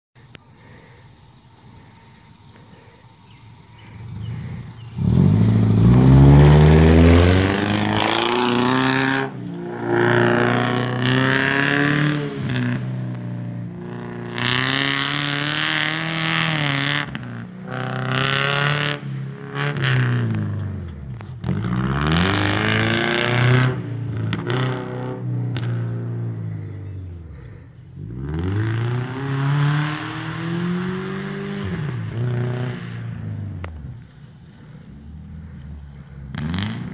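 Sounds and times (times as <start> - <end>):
car engine revving: 0.6 - 36.9.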